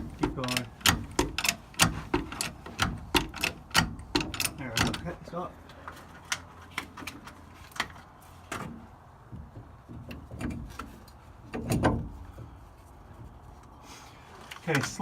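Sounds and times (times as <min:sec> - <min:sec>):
metal knocks and clunks: 0:00.0 - 0:05.3, 0:06.2 - 0:13.4.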